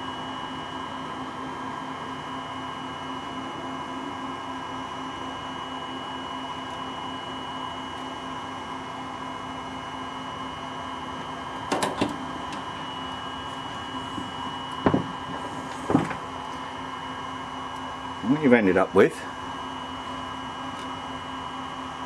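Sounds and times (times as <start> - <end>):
electrical hum: 0.0 - 22.0
thin high whine: 0.0 - 22.0.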